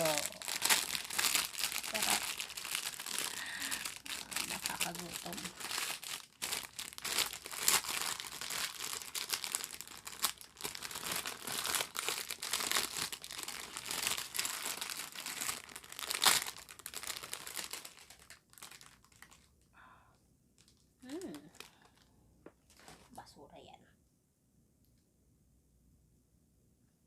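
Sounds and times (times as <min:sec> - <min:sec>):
plastic packaging crinkling: 0:00.0 - 0:19.7, 0:20.6 - 0:23.1.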